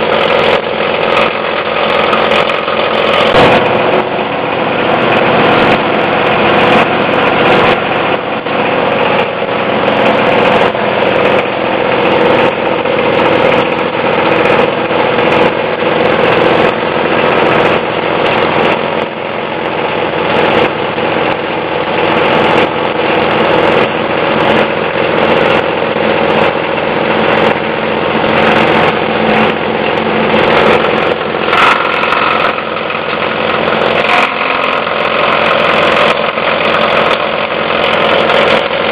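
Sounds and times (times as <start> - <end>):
plastic cracking in shredder: 0.0 - 38.9
plastic shredder drone: 0.0 - 38.9.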